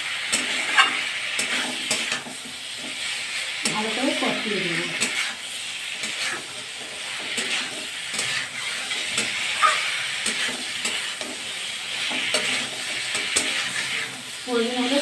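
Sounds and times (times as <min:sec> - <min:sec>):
spatula scraping pan: 0:00.0 - 0:15.0
vegetables sizzling in hot oil: 0:00.0 - 0:15.0.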